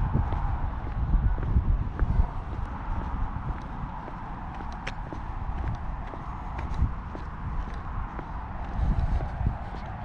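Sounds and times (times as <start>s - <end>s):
footsteps on tarmac: 0.0s - 10.0s
wind buffeting microphone: 0.0s - 10.0s.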